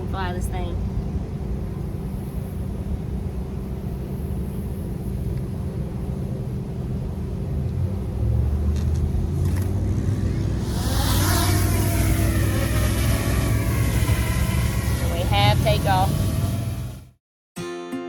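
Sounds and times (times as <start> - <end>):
engine running: 0.0 - 17.2.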